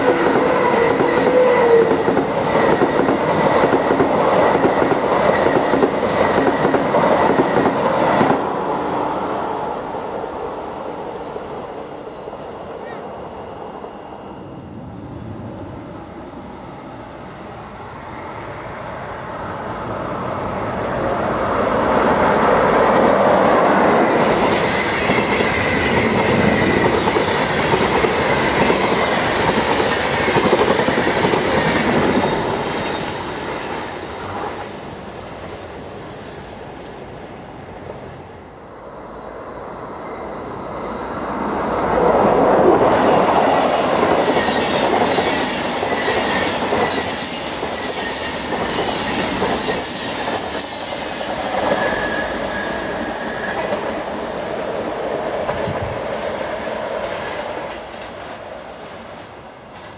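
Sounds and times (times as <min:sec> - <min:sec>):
train passing on tracks: 0:00.0 - 0:59.9.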